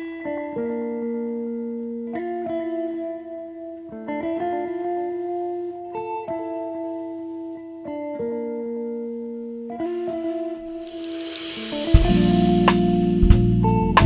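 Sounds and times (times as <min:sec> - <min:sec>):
guitar chords: 0:00.0 - 0:14.0.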